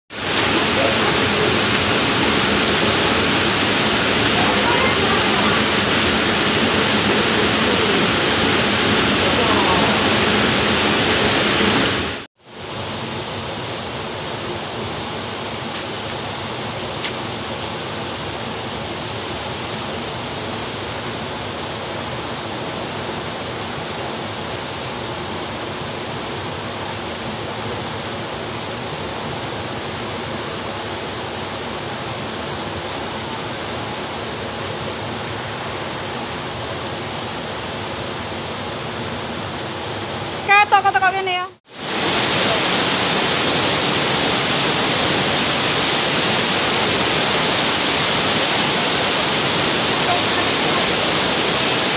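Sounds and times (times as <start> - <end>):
floodwater rushing: 0.1 - 51.9.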